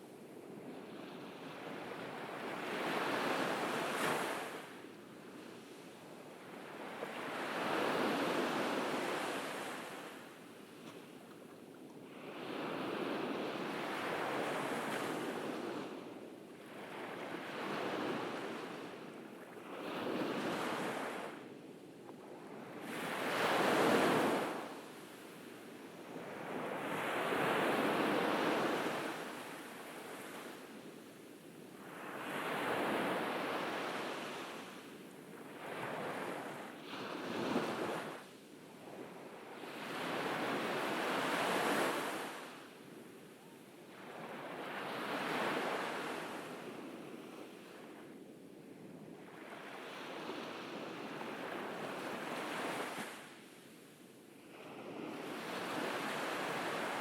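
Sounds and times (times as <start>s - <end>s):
ocean waves breaking on beach: 0.0s - 4.9s, 5.6s - 11.2s, 12.0s - 21.5s, 22.4s - 57.0s.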